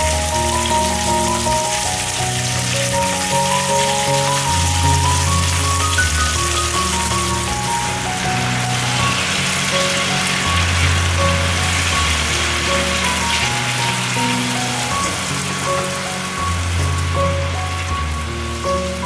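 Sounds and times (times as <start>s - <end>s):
chicken sizzling in a pot: 0.0s - 19.0s
slow background music: 0.0s - 19.0s.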